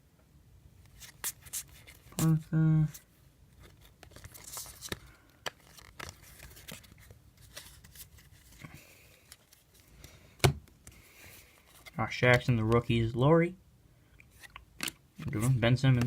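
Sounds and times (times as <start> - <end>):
cards rustling and clicking: 0.9 - 12.9, 14.2 - 16.0.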